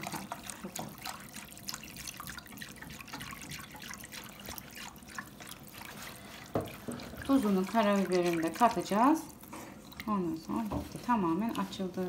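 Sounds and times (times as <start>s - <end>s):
liquid sloshing in saucepan: 0.0s - 12.0s.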